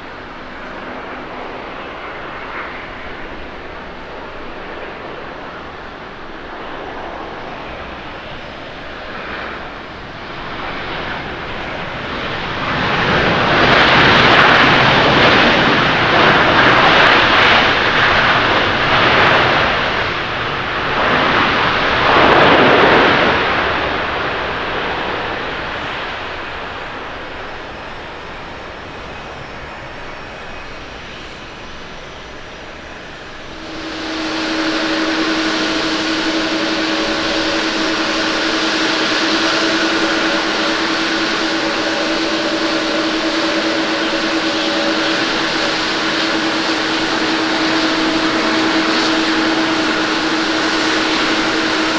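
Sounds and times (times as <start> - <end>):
jet engine reverse thrust rush: 0.0 - 51.9.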